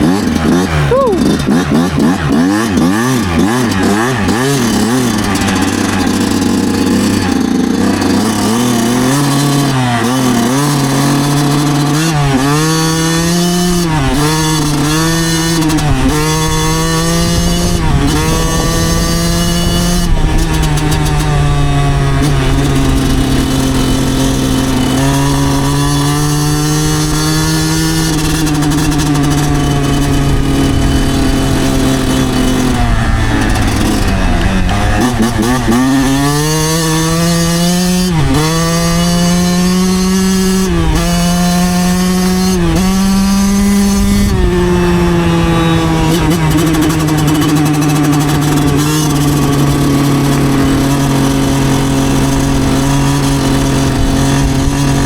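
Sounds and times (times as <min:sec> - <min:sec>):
two-stroke motorcycle engine: 0:00.0 - 0:55.0.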